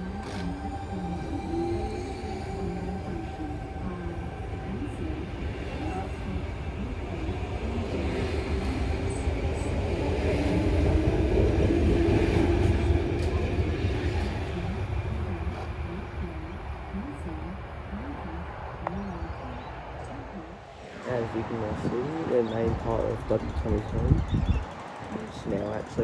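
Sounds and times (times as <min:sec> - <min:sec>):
electric train rumbling into station: 0:00.0 - 0:26.0.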